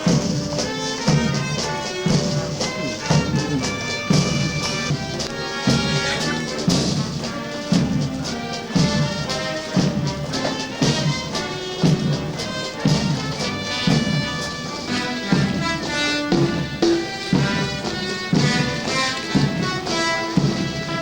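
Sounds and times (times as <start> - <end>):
bass drum beat: 0.0 - 21.0
brass band playing a march: 0.0 - 21.0.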